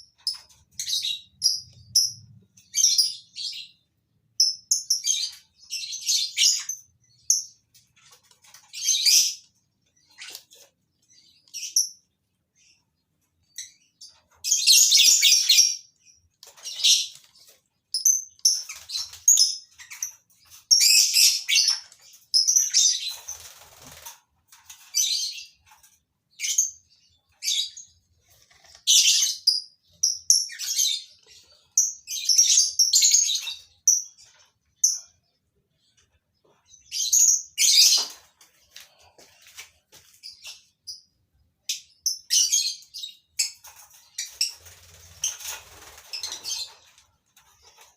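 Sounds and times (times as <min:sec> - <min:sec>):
lovebirds chirping: 0:00.0 - 0:24.1, 0:24.8 - 0:47.9.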